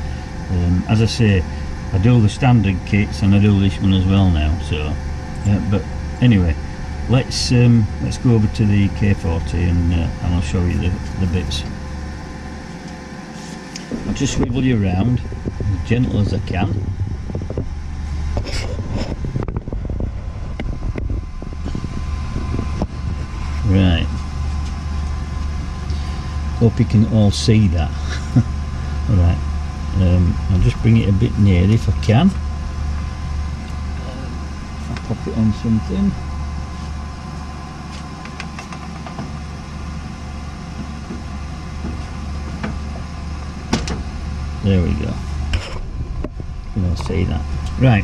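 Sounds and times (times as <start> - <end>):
machine humming: 0.0 - 48.0
thin steady whine: 0.0 - 48.0.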